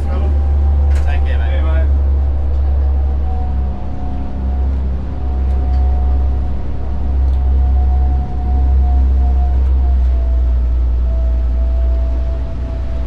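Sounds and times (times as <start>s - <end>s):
boat engines droning: 0.0s - 13.0s
steady engine whine: 0.0s - 13.0s.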